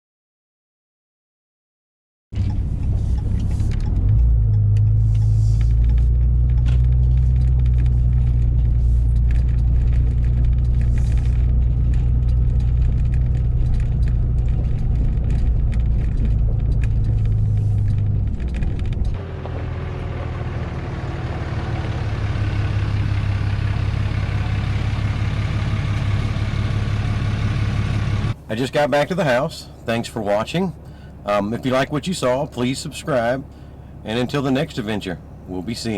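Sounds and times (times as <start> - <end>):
vehicle engine and road rumble: 2.3 - 35.9.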